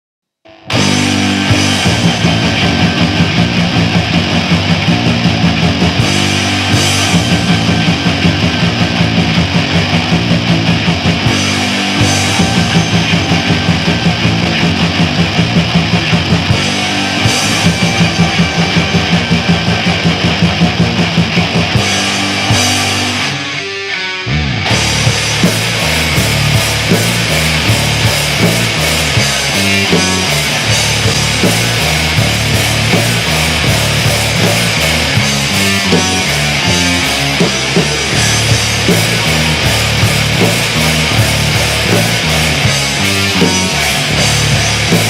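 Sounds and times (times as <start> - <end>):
black metal song: 0.5 - 45.0.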